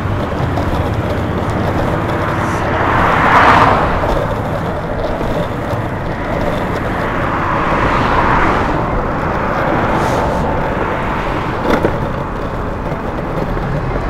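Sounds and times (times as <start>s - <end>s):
skateboard wheels rolling on asphalt: 0.0s - 14.0s
street traffic passing: 0.0s - 14.0s.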